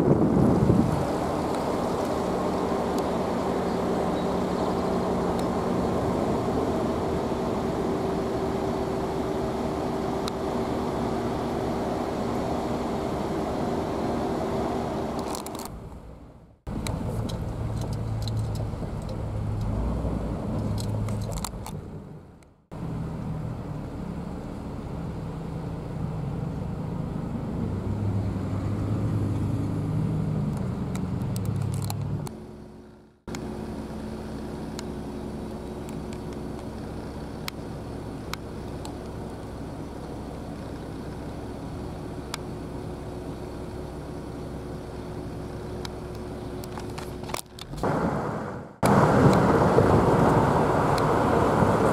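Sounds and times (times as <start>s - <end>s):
diesel engines humming: 0.0s - 51.9s.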